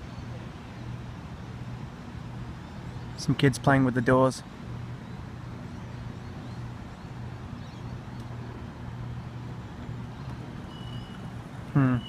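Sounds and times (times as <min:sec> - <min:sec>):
light background noise: 0:00.0 - 0:12.0.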